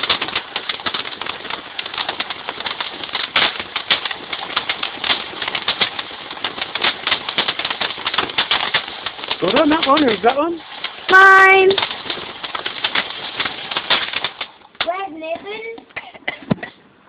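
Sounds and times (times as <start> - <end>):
firework crackling: 0.0 - 16.6.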